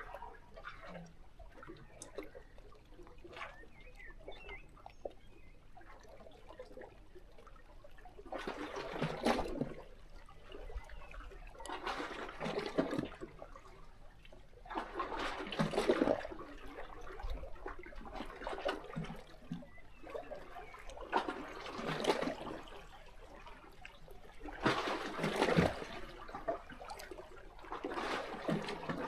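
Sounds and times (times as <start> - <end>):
water trickling and crackling: 0.0 - 29.0
waves lapping against rocks: 0.0 - 29.0.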